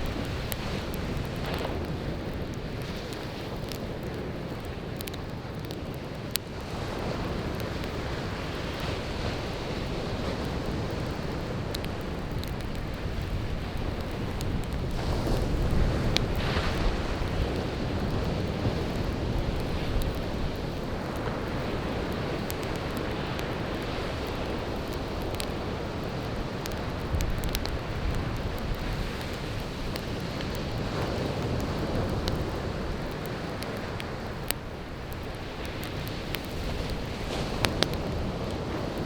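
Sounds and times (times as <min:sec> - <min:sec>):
firewood crackling and popping: 0:00.0 - 0:39.0
surf washing onto beach: 0:05.9 - 0:39.0.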